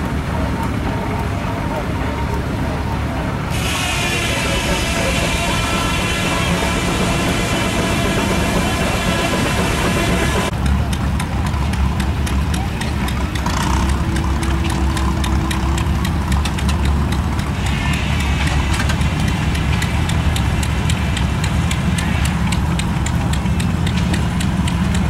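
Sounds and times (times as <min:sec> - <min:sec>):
drilling rig engine drone: 0:00.0 - 0:25.0
rapid machinery clicking: 0:00.0 - 0:25.0.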